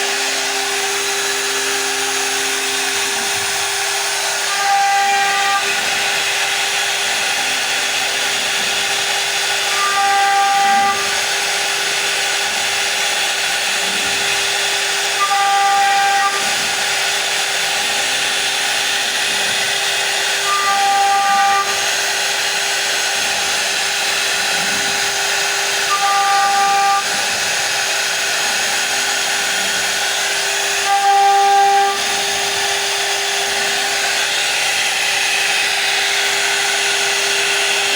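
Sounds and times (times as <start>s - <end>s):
router spindle cutting wood: 0.0s - 37.9s.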